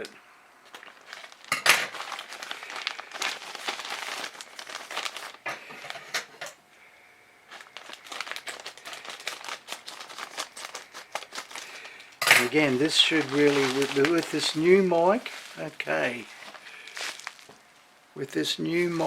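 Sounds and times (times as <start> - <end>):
packaging crinkling and crackling: 0.6 - 6.5, 7.5 - 17.8, 18.7 - 19.0.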